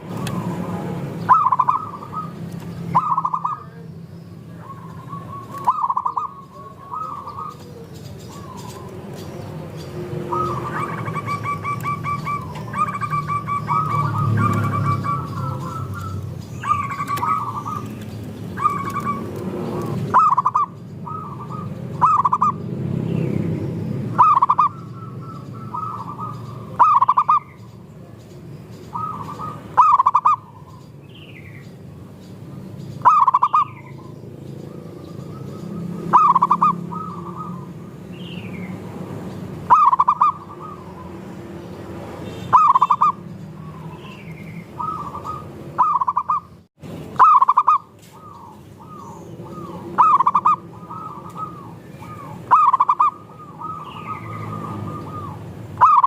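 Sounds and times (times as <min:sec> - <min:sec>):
doves cooing: 0:00.0 - 0:22.9, 0:24.0 - 0:27.7, 0:28.9 - 0:30.9, 0:33.0 - 0:41.6, 0:42.4 - 0:56.0.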